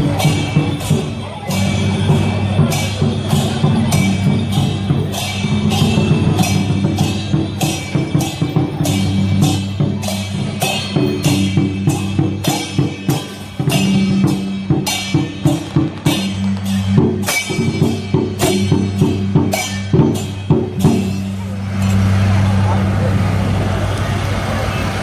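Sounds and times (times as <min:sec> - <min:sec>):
drums and cymbals beaten: 0:00.0 - 0:23.7.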